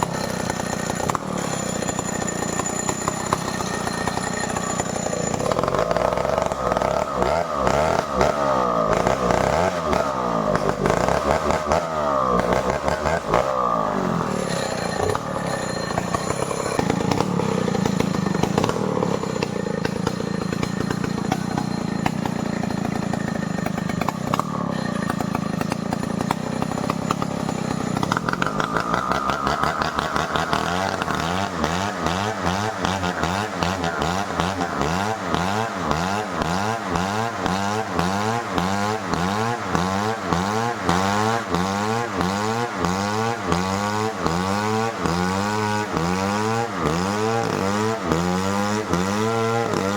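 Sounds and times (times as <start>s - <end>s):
chainsaw cutting timber: 0.0s - 49.9s.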